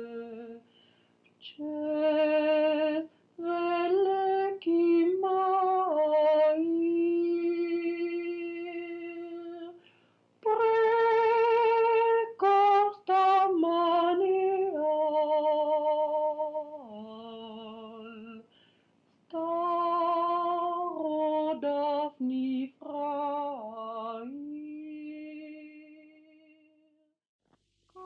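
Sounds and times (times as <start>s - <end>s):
woman singing unaccompanied: 0.0s - 0.7s, 1.3s - 18.5s, 19.3s - 26.8s.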